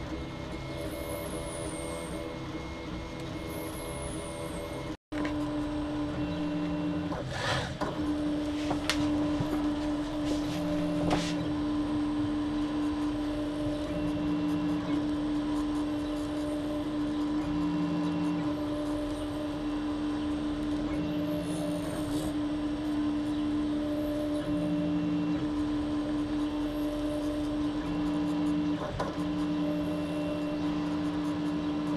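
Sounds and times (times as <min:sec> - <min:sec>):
low motor tone: 0:00.0 - 0:31.9
printer mechanical hum: 0:00.0 - 0:31.9.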